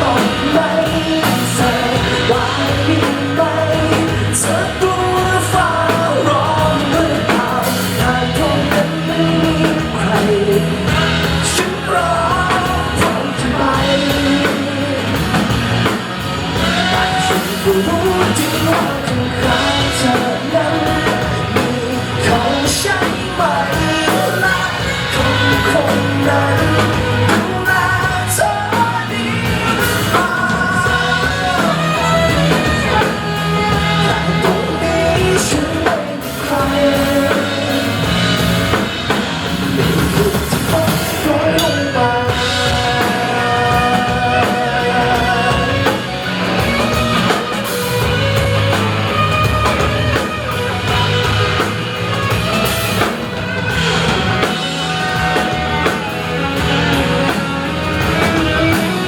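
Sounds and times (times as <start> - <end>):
drums: 0.0 - 59.0
guitars: 0.0 - 59.0
person singing: 0.0 - 59.0.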